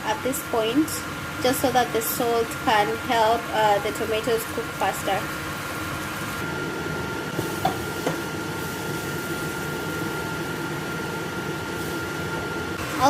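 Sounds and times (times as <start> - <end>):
fan hum with high whine: 0.0 - 13.0
onions and tomatoes sizzling in oil: 0.1 - 13.0.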